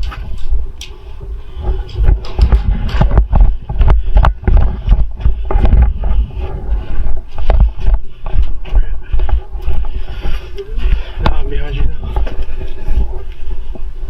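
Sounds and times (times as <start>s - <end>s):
rhythmic thuds and clicks: 0.0s - 14.0s
wind rumble: 0.0s - 14.0s.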